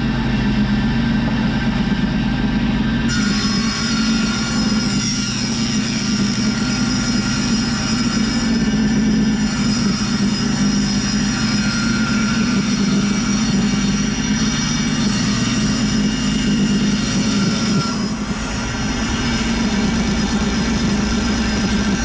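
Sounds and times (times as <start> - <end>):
steady machine drone: 0.0 - 22.0.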